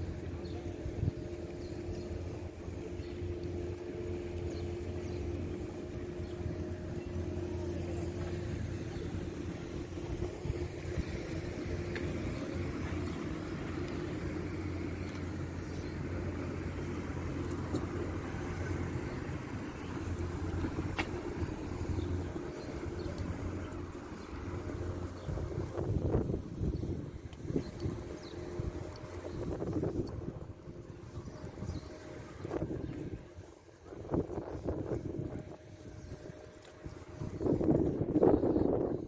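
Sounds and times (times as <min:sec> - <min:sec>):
traffic noise: 0:00.0 - 0:39.0
vehicle engine humming: 0:00.0 - 0:39.0.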